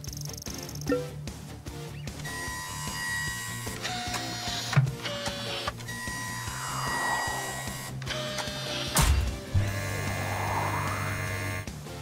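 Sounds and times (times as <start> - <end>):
cartoon background music: 0.0 - 10.3.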